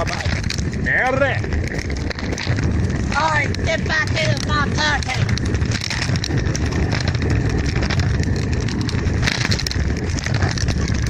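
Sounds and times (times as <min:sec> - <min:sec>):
small wheels rattling: 0:00.0 - 0:11.0
wind buffeting microphone: 0:00.0 - 0:11.0.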